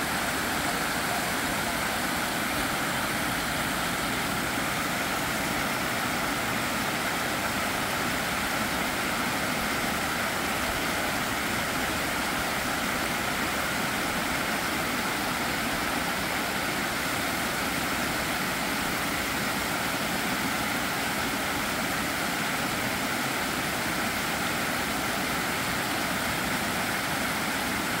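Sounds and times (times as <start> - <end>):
water pouring over spillway: 0.0 - 28.0.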